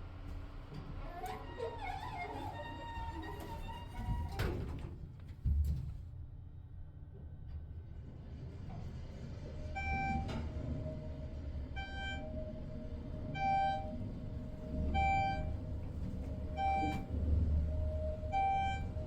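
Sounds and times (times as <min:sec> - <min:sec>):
elevator rumble and hum: 0:00.0 - 0:19.0.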